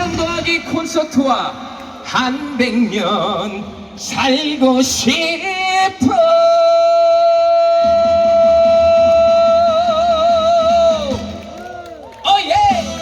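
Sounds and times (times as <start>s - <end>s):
backing track: 0.0s - 13.0s.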